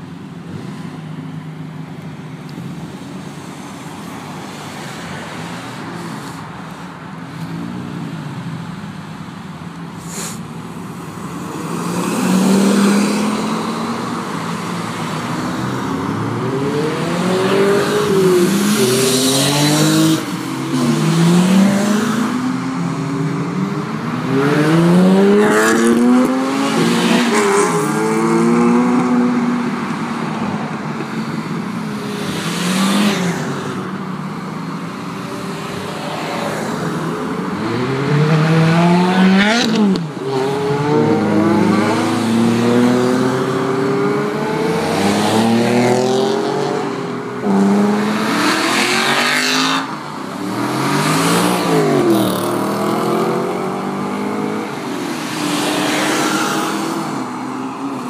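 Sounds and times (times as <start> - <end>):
cars passing close by: 0.0 - 58.0.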